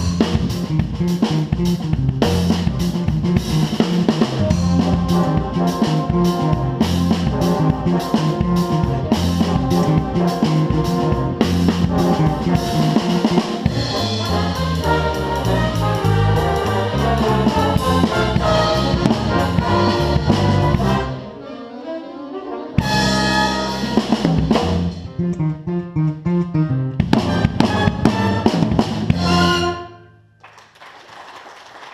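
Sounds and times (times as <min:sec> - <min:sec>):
big jazz band playing: 0:00.0 - 0:30.0.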